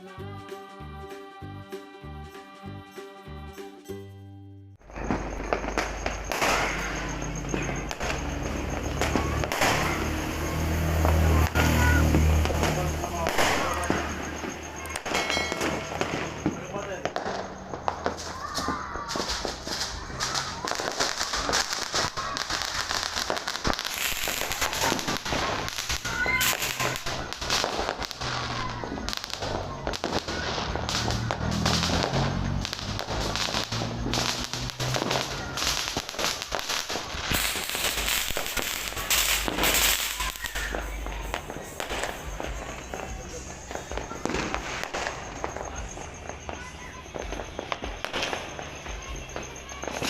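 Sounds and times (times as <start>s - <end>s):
fireworks bangs and crackling: 4.8s - 50.0s.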